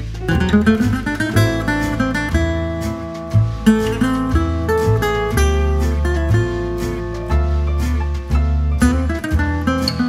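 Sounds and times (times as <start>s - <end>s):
acoustic guitar: 0.0s - 10.0s
steady bass line: 0.0s - 10.0s.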